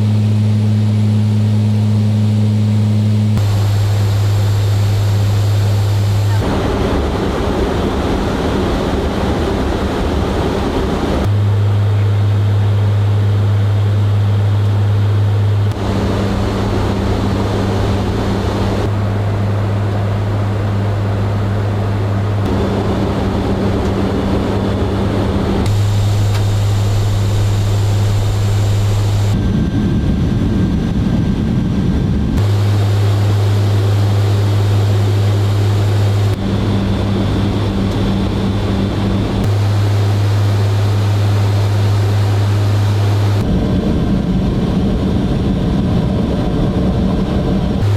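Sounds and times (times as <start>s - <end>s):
turboprop engines droning: 0.0s - 47.9s.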